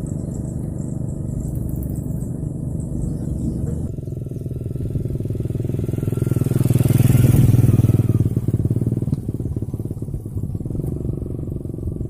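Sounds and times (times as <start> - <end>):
motorcycle passing by: 0.0 - 12.0.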